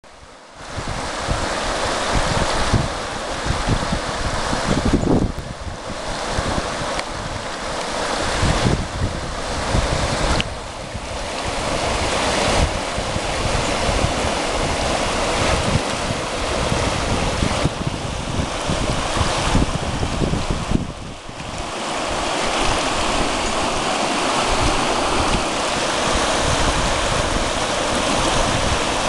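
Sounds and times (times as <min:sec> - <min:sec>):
river water rushing: 0:00.1 - 0:29.0
wind on microphone: 0:00.1 - 0:29.0.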